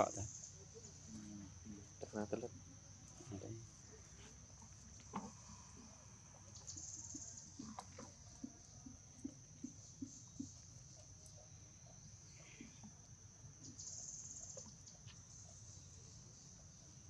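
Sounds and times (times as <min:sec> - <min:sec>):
insects trilling: 0:00.0 - 0:17.0
pulsing insect trill: 0:00.0 - 0:17.0.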